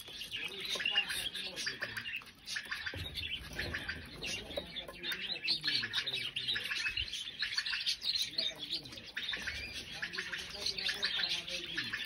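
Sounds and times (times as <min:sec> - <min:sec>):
canaries chirping and trilling: 0:00.0 - 0:12.0.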